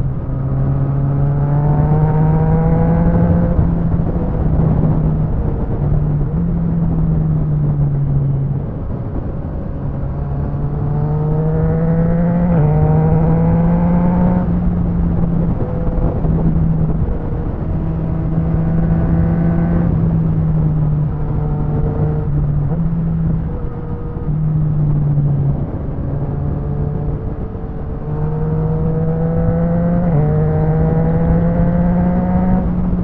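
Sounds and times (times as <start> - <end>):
wind rush: 0.0 - 33.0
motorcycle engine revving: 0.4 - 6.3, 8.7 - 33.0.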